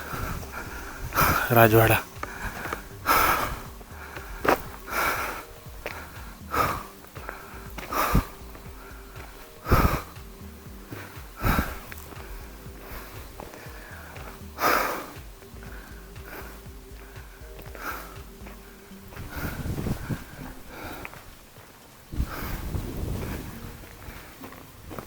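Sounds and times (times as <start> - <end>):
person breathing: 0.0 - 21.4, 22.1 - 24.7
faint background music: 0.0 - 25.0.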